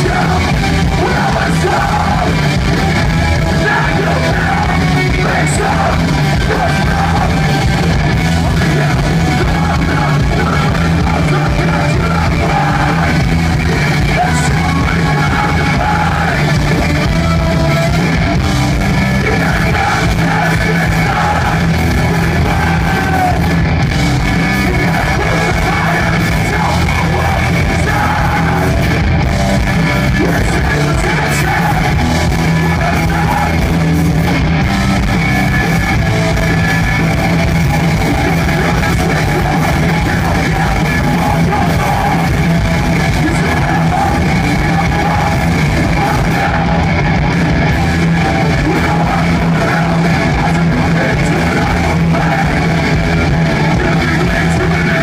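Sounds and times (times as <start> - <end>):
bass guitar: 0.0 - 55.0
distorted electric guitars: 0.0 - 55.0
drums: 0.0 - 55.0
shouted vocals: 0.0 - 55.0.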